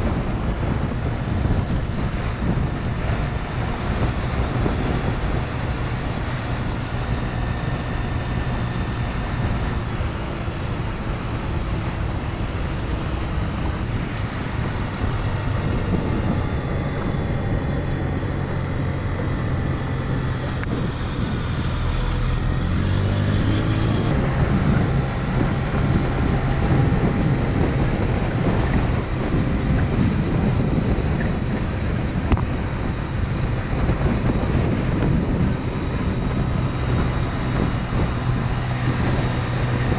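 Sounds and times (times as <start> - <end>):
motor scooter engine running: 0.0 - 39.9
wind and road noise: 0.0 - 39.9.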